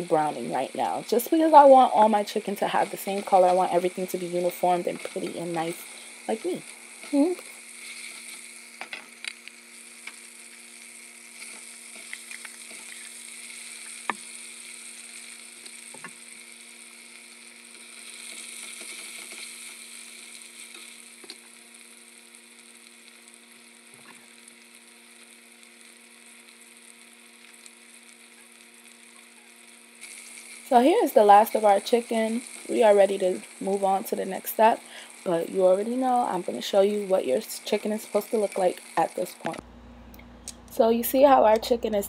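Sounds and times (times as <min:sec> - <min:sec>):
chicken sizzling in oil: 0:00.0 - 0:39.5.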